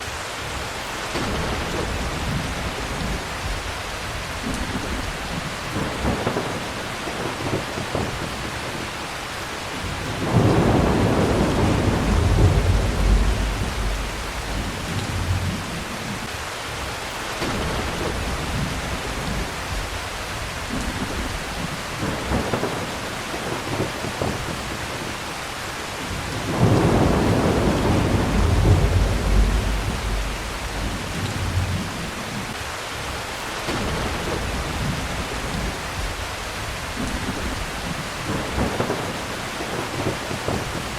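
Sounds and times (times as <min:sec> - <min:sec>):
steady rain falling: 0:00.0 - 0:40.9
rolling thunder: 0:00.6 - 0:09.0, 0:09.7 - 0:16.3, 0:17.4 - 0:25.2, 0:26.0 - 0:32.6, 0:33.7 - 0:40.9.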